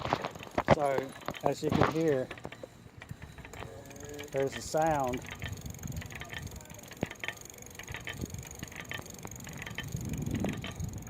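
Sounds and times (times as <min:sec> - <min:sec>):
bike gearbox clicking: 0:00.0 - 0:11.0.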